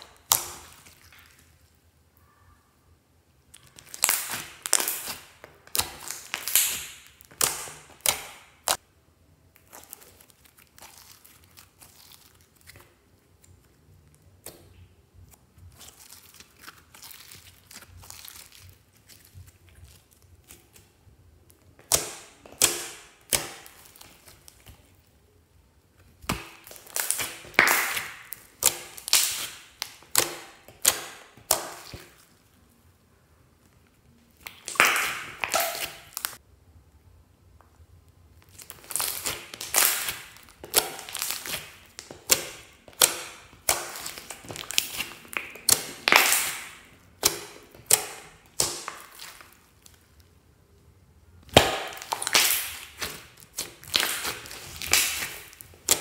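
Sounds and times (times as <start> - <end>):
slime squishing and crackling: 0.0 - 1.8, 3.5 - 8.8, 9.4 - 32.8, 33.6 - 36.4, 38.3 - 56.0.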